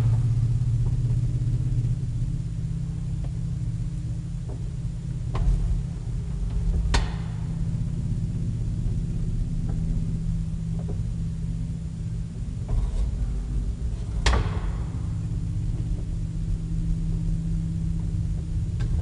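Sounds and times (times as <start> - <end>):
elevator humming and rumbling: 0.0 - 19.0.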